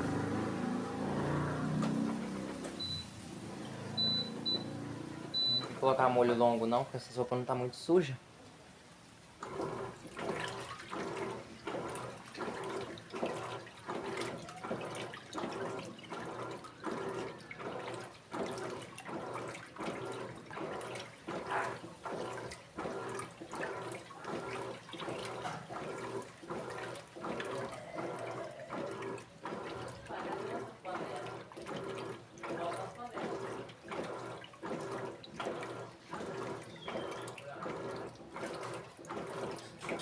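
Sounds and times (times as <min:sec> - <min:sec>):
water and clothes sloshing: 0:00.0 - 0:07.8, 0:09.0 - 0:40.0
washing machine agitating: 0:00.0 - 0:08.2, 0:09.4 - 0:40.0.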